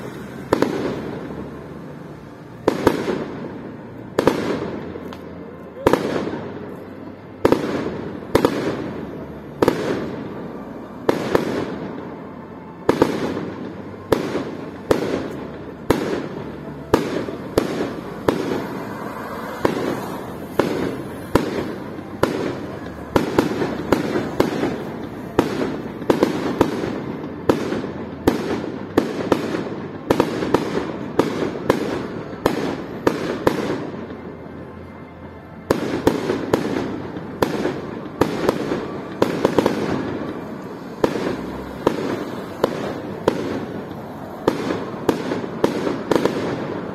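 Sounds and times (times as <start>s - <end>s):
echo of bangs: 0.0s - 1.9s, 5.8s - 34.2s, 35.7s - 46.9s.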